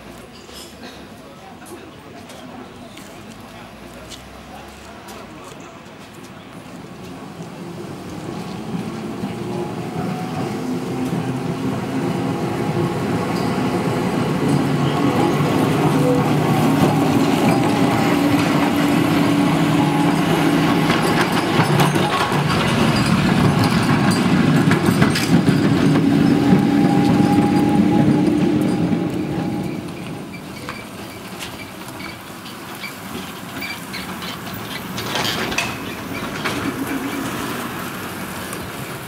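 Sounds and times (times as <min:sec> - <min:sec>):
tram wheel and rail noise: 0:00.0 - 0:39.0
electric tram motor hum: 0:06.8 - 0:39.0.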